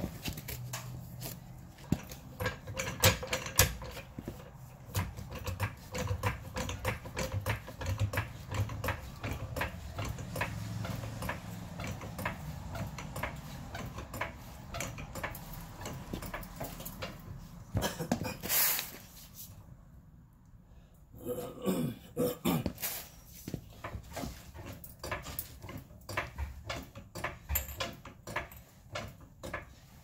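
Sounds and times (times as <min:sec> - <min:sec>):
floor jack clicks and clanks: 0:00.0 - 0:19.1, 0:22.6 - 0:30.0.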